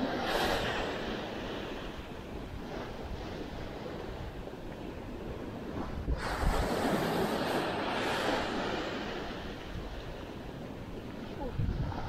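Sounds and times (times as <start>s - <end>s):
surf breaking on rocky shore: 0.0s - 10.4s
wind rumbling on microphone: 0.0s - 12.0s.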